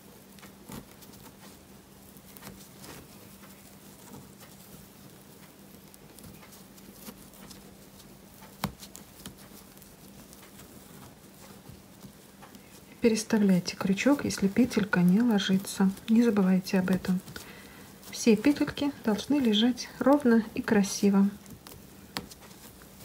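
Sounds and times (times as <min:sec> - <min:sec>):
dry rustling and scratching of twine: 0:00.0 - 0:23.0.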